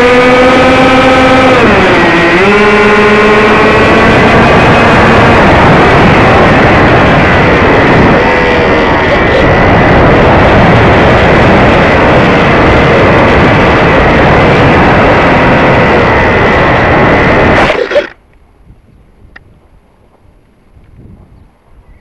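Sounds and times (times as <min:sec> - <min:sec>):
electric motor whine: 0:00.0 - 0:18.2
rushing wind: 0:00.0 - 0:22.0.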